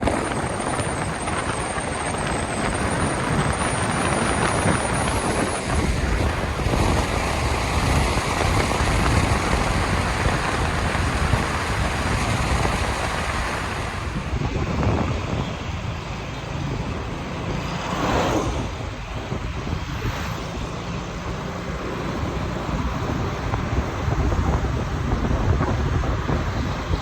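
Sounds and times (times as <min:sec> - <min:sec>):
vehicle road noise: 0:00.0 - 0:27.0.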